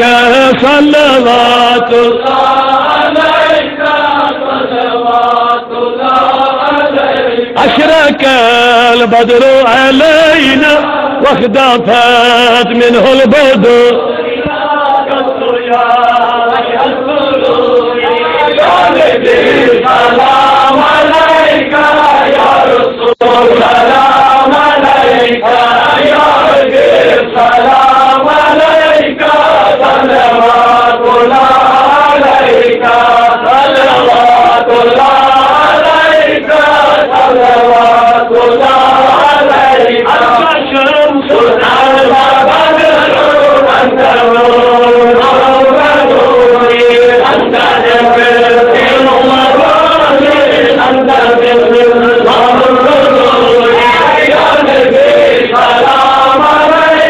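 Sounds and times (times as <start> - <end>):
men chanting together: 0.0 - 57.0.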